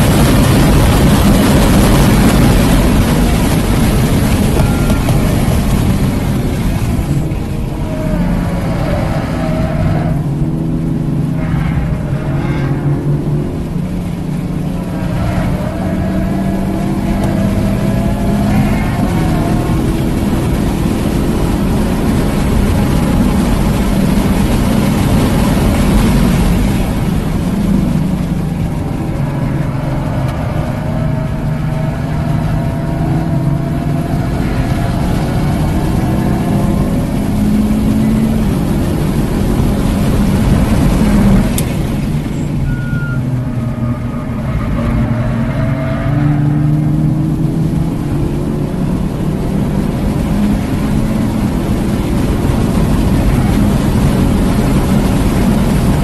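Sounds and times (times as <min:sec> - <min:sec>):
car engine accelerating: 0:00.0 - 0:56.0
wind noise: 0:00.0 - 0:56.0.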